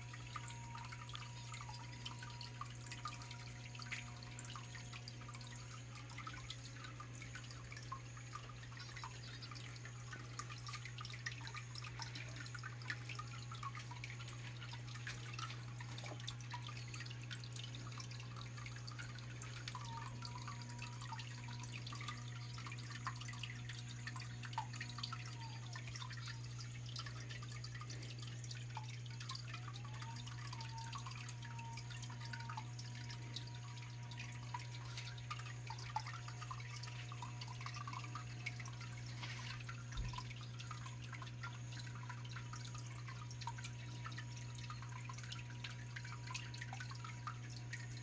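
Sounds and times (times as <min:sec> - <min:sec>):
small waterfall trickling and splashing: 0:00.0 - 0:48.0.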